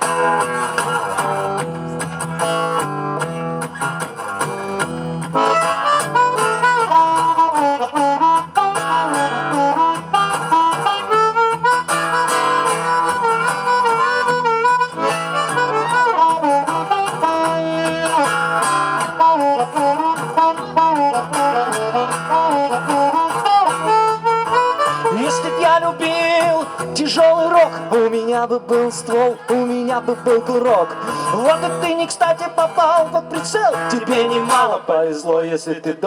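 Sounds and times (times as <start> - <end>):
bending lead guitar melody: 0.0 - 36.0
guitar accompaniment: 0.0 - 36.0.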